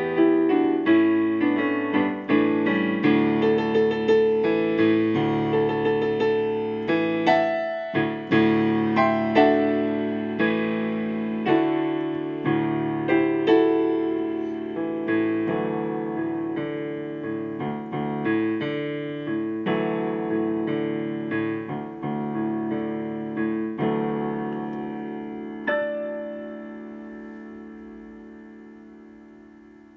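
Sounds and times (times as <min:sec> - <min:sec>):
solo piano slow chords: 0:00.0 - 0:29.9.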